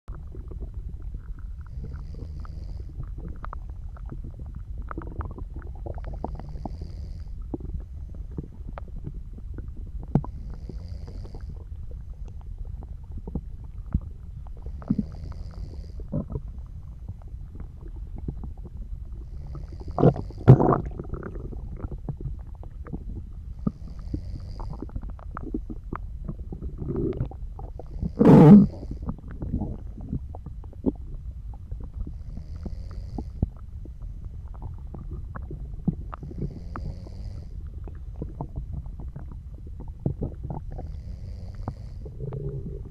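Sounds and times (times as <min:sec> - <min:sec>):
stomach gurgling and rumbling: 0:00.0 - 0:42.9
soft slow breathing: 0:00.1 - 0:42.9.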